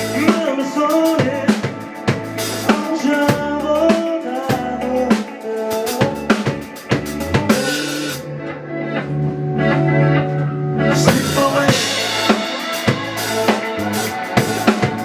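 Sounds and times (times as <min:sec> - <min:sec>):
drum kit beating: 0:00.0 - 0:08.2, 0:09.8 - 0:15.0
rock band playing live: 0:00.0 - 0:15.0.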